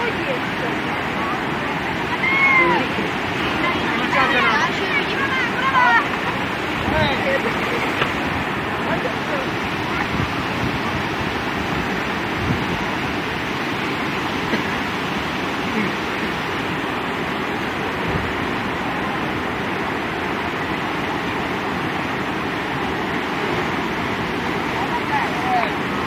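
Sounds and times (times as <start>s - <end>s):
water rushing over a weir: 0.0s - 26.0s.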